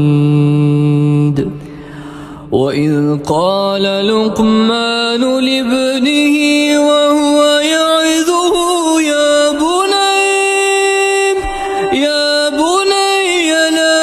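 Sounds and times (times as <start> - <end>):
man chanting melodically: 2.5 - 14.0.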